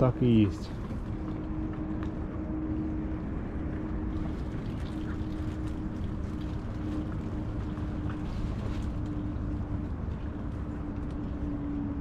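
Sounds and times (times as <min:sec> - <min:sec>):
boat engine humming: 0:00.0 - 0:12.0
water splashing around hull: 0:00.0 - 0:12.0.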